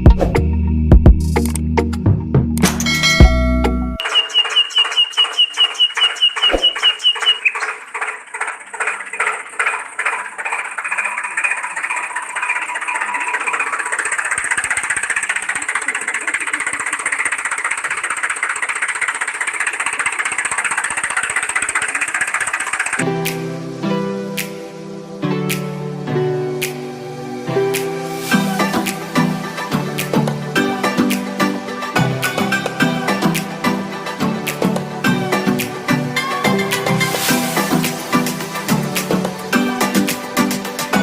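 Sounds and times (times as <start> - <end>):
tractor engine starting and running: 1.3 - 41.0.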